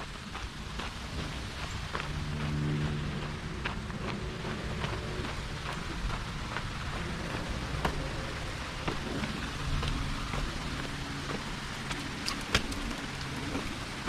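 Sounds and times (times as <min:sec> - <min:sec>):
footsteps crunching on trail: 0:00.0 - 0:14.0
steady low rumble: 0:00.0 - 0:14.0.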